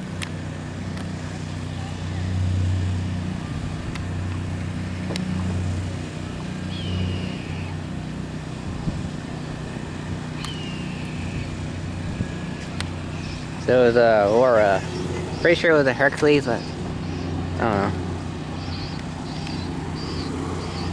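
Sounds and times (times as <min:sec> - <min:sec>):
turboprop plane droning overhead: 0:00.0 - 0:20.9.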